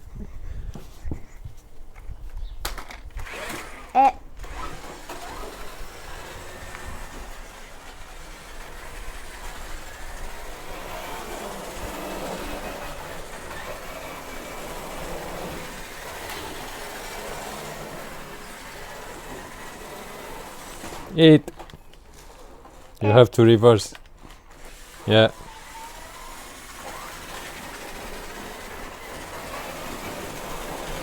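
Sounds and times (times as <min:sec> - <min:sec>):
wheels rattling over rough ground: 0:01.9 - 0:31.0
toy car motors whirring: 0:02.6 - 0:31.0.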